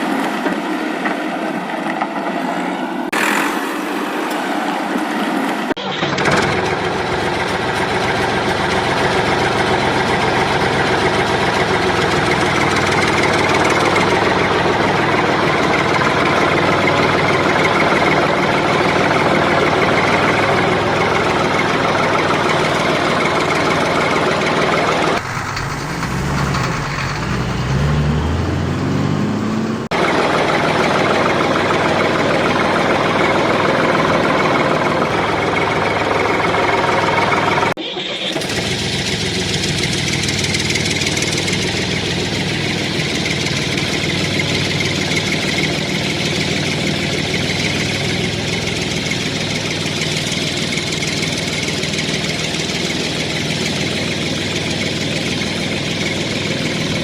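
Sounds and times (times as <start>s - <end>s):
diesel engine running: 5.7s - 57.0s
engine note rising in pitch: 5.8s - 57.0s.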